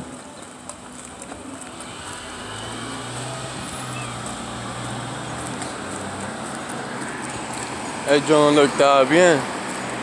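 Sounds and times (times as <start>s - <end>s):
street noise: 0.0s - 10.0s
vehicle engine humming: 0.0s - 10.0s.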